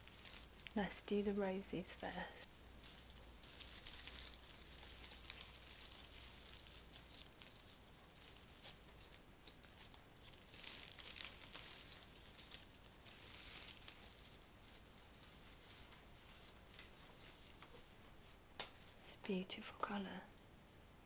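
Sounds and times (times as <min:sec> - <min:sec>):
rose stems rustling: 0:00.0 - 0:20.2.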